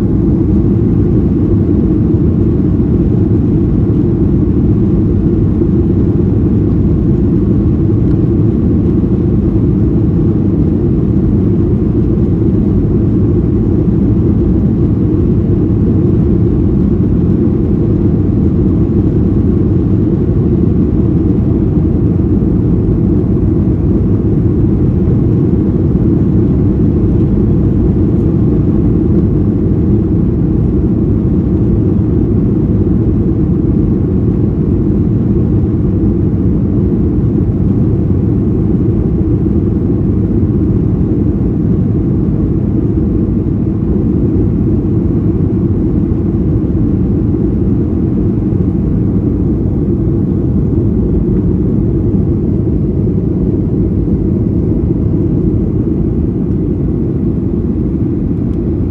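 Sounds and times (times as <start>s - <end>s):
airplane cabin drone: 0.0s - 58.9s.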